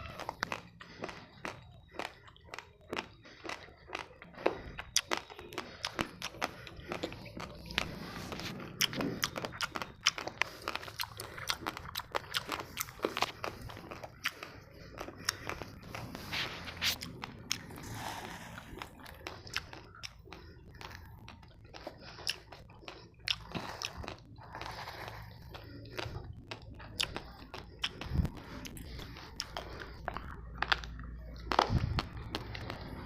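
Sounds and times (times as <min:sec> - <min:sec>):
person chewing raw rice: 0:00.0 - 0:33.0.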